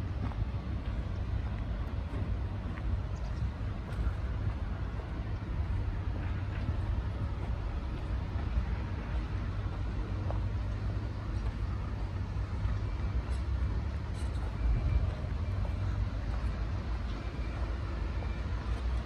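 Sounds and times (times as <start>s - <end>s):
heavy diesel machinery rumbling: 0.0s - 19.0s.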